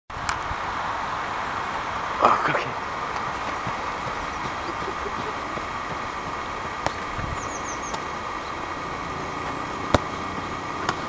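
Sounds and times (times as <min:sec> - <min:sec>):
outdoor background noise: 0:00.1 - 0:11.0.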